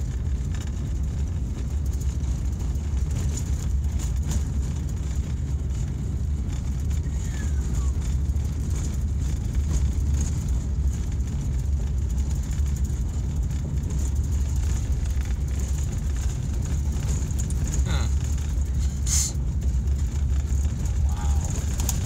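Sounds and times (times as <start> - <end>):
car driving on gravel: 0.0 - 22.0.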